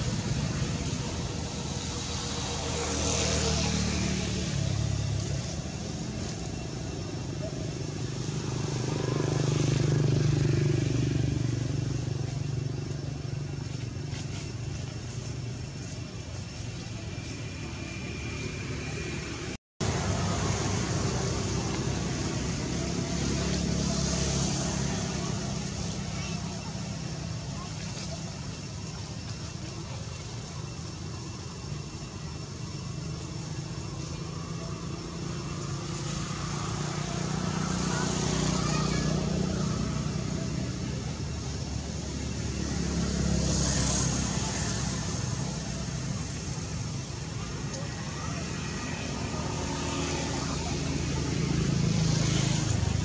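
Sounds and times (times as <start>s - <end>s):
low vehicle engine hum: 0.0s - 53.0s.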